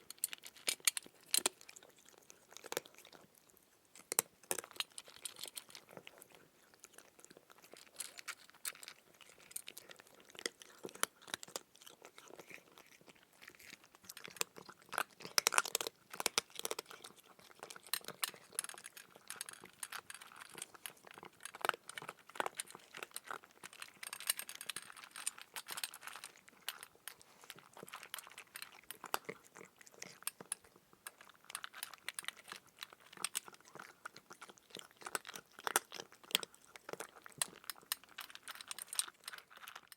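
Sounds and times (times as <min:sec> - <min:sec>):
crunching and chewing crisp food: 0:00.0 - 0:39.9.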